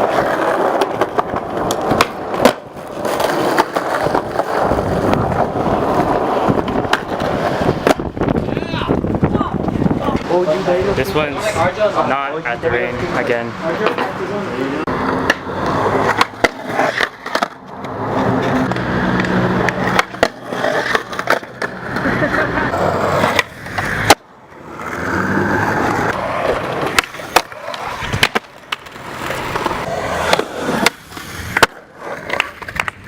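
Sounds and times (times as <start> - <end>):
skateboard clacks and slaps: 0.0 - 10.4, 14.8 - 24.3, 25.0 - 33.0
skateboard wheels rolling on concrete: 0.0 - 33.0.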